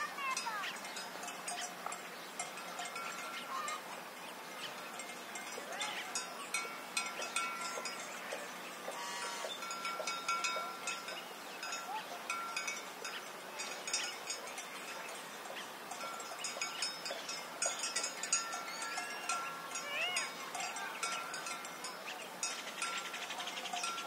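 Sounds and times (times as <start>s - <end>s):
birds chirping: 0.0s - 24.0s
cowbells clinking: 0.0s - 24.0s.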